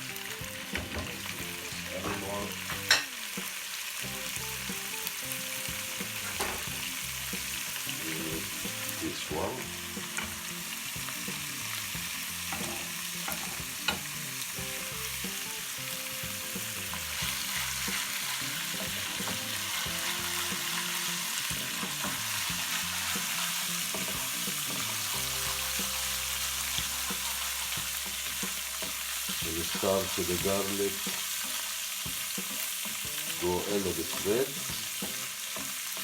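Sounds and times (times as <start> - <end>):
garlic sizzling in butter: 0.0 - 36.0.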